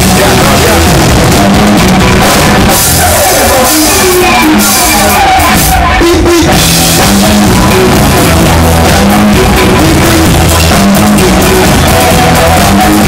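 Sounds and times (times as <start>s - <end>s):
bass line: 0.0s - 13.0s
drum kit beat: 0.0s - 13.0s
electric guitar: 0.0s - 13.0s.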